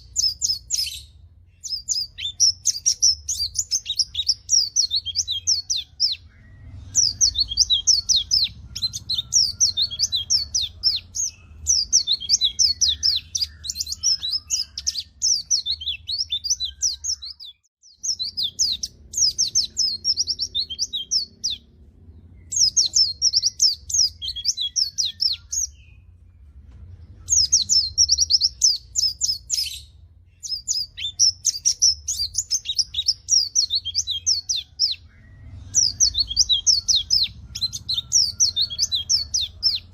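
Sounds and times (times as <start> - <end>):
bird twittering song: 0.0 - 39.9
faint low hum: 0.0 - 39.9.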